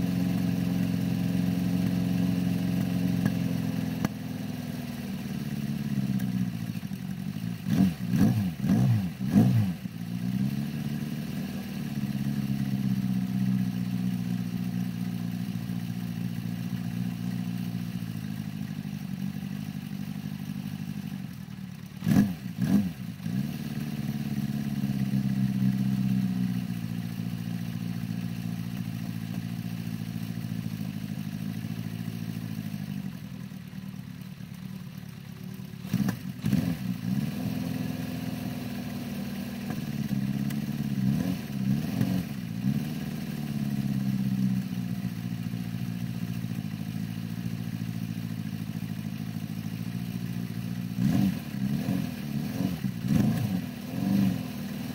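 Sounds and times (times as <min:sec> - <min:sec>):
motorcycle engine idling: 0:00.0 - 0:54.9.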